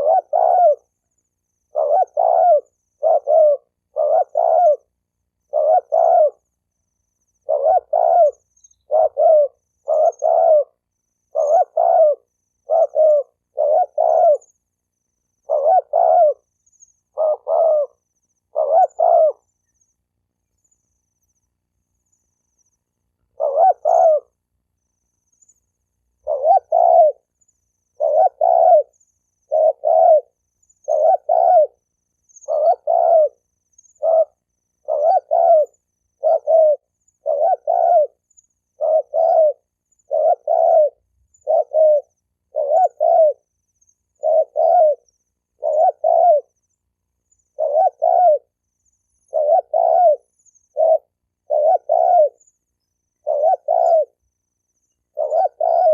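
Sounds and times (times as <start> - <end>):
dove cooing: 0.0 - 6.6, 7.3 - 19.8, 23.2 - 24.4, 26.2 - 52.5, 53.2 - 55.9.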